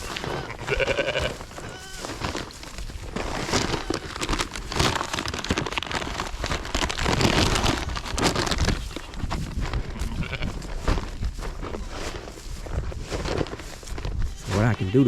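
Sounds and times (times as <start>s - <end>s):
goats and sheep bleating: 0.0s - 12.5s, 13.6s - 15.0s
animals pattering and rustling: 0.0s - 15.0s.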